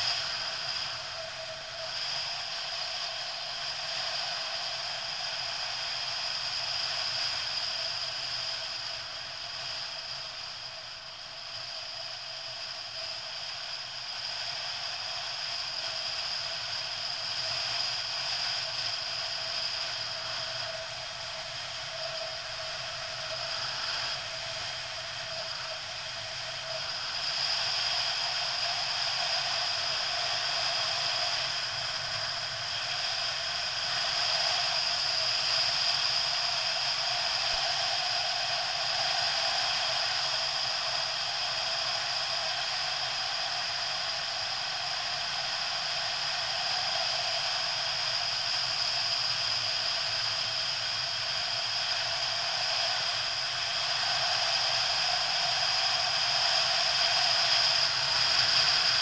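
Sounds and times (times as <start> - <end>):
motorcycle running with wind hiss: 0.0 - 59.0.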